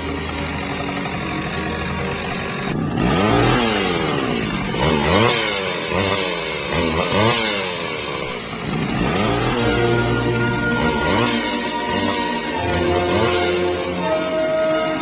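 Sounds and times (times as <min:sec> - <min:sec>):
chainsaw engine revving: 0:00.0 - 0:15.0.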